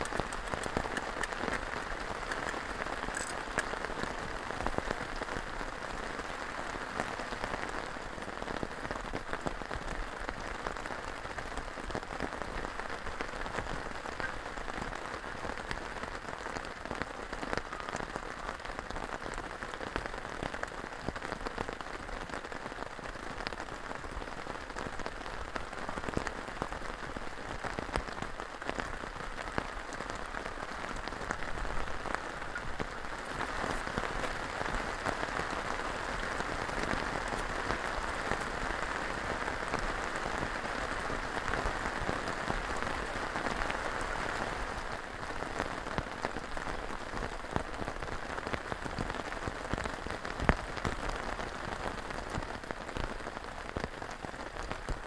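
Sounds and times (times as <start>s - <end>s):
heavy rain on a tarp: 0.0s - 55.0s.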